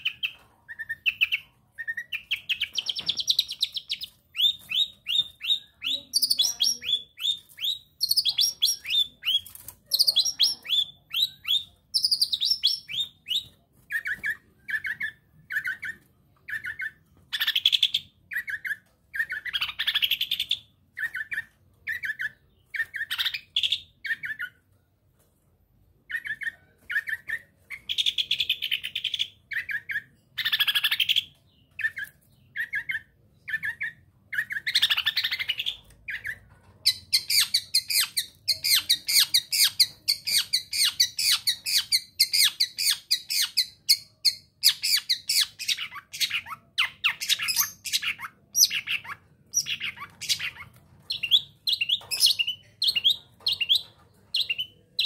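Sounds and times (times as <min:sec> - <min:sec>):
shrike chirping and chattering: 0:00.0 - 0:24.6, 0:26.1 - 0:55.0.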